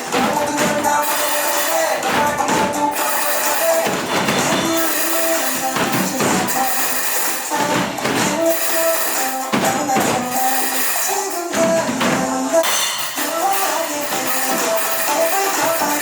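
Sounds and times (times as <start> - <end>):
jingling percussion: 0.0 - 16.0.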